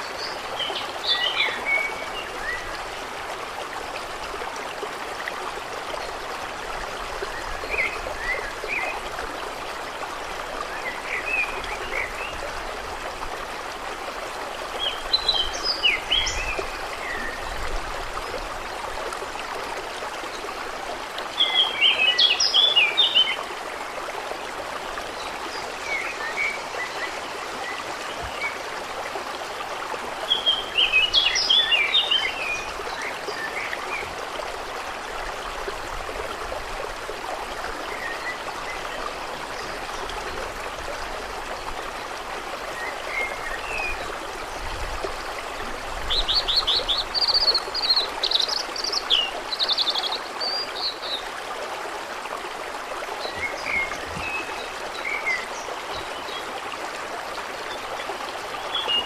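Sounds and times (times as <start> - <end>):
steady water noise: 0.0 - 59.0.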